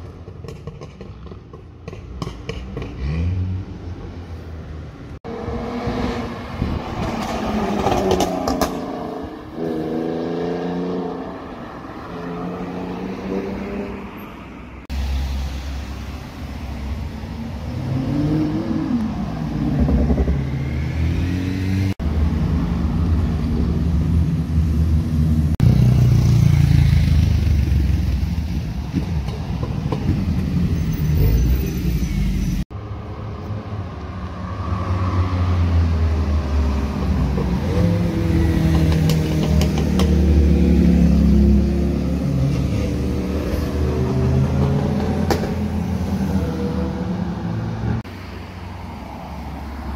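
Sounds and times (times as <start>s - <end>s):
cars revving past: 2.2s - 16.1s, 16.8s - 28.2s, 30.0s - 49.9s.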